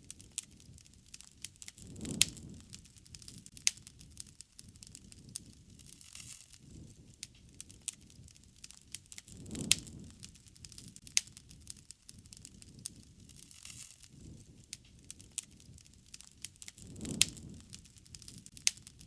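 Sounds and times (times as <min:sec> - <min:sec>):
rush of flames: 0:00.0 - 0:19.0
wood fire crackling: 0:00.0 - 0:19.0.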